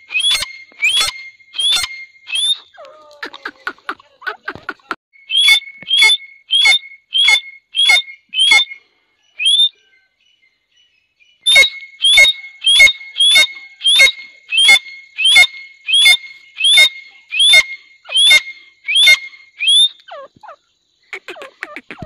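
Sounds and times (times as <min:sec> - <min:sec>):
shrill rising bird calls: 0:00.0 - 0:02.9, 0:05.2 - 0:22.0.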